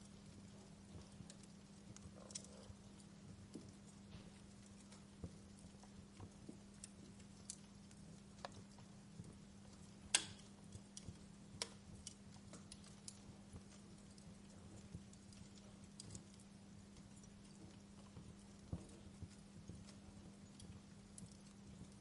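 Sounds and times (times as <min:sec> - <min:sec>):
steady low hum: 0:00.0 - 0:22.0
wood fire crackling: 0:00.0 - 0:22.0
fire pops and snaps: 0:00.2 - 0:22.0.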